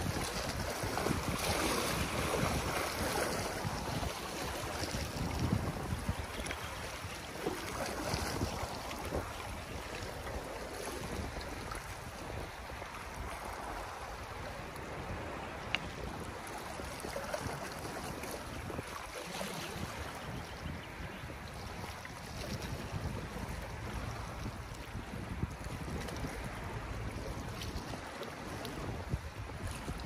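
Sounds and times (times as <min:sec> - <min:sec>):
waves lapping against concrete: 0:00.0 - 0:30.0
wind on microphone: 0:00.0 - 0:30.0.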